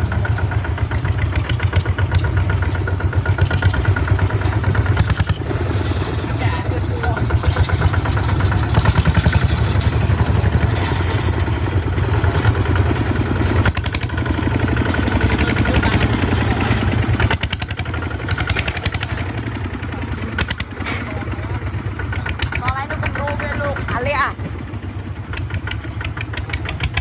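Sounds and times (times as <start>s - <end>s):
clatter: 0.0s - 27.0s
tractor engine chugging: 0.0s - 27.0s.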